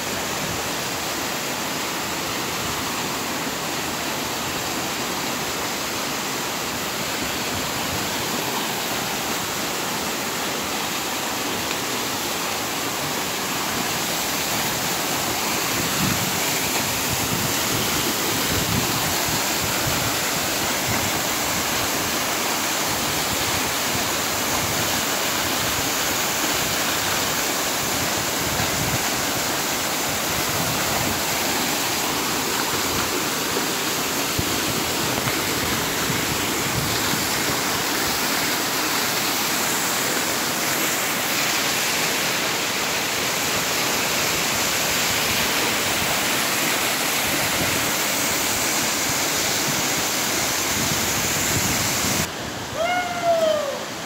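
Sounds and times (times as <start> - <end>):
waterfall pouring onto boulders: 0.0 - 54.0.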